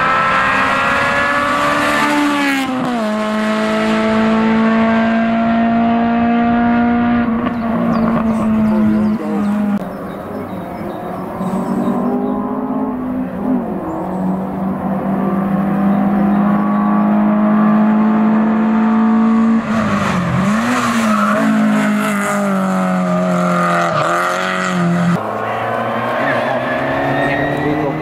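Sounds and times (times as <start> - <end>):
racing car engine at high revs: 0.0 - 28.0.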